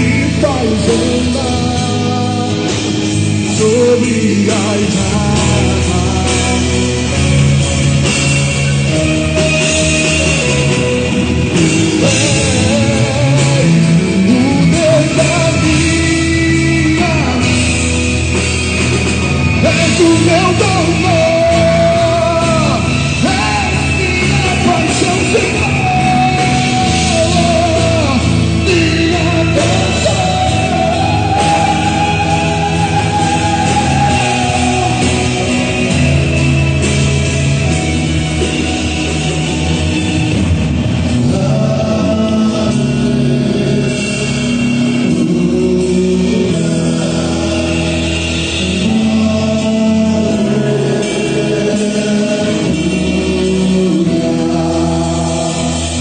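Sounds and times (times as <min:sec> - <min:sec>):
person singing worship song: 0:00.0 - 0:08.2, 0:08.8 - 0:56.0
band with guitar: 0:00.0 - 0:56.0.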